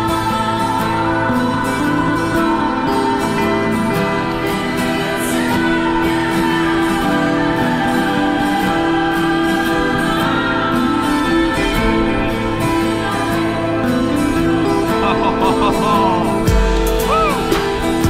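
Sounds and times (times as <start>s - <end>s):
song with singing: 0.0s - 18.0s.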